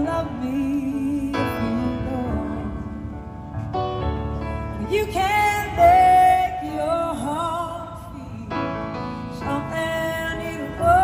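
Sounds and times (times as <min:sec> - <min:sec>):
woman singing: 0:00.0 - 0:03.3, 0:04.8 - 0:11.0
piano and keyboard chords: 0:00.0 - 0:11.0.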